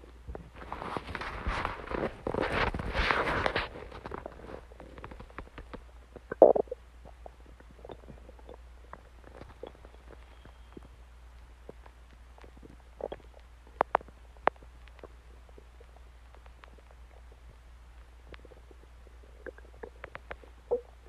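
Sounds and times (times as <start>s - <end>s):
stomach gurgling: 0.0s - 21.0s.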